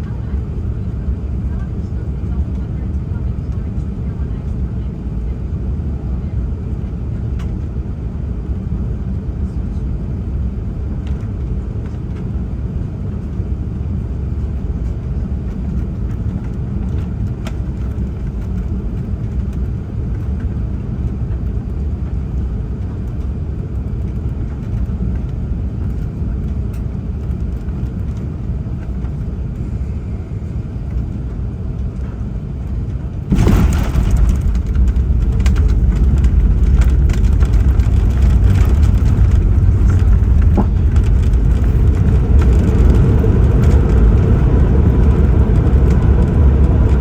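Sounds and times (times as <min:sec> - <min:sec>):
airliner engine rumble: 0:00.0 - 0:47.0.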